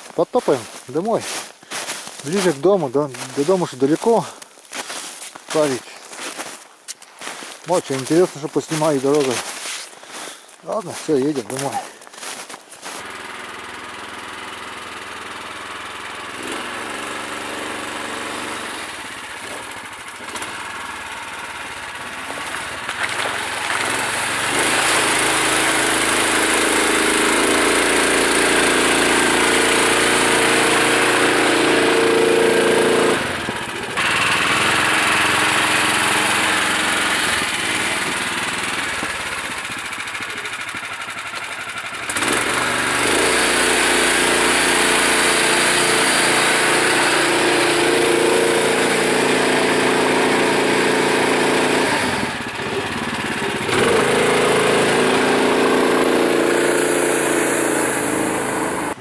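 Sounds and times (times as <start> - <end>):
all-terrain vehicle engine running: 0.1 - 6.0, 10.1 - 59.0.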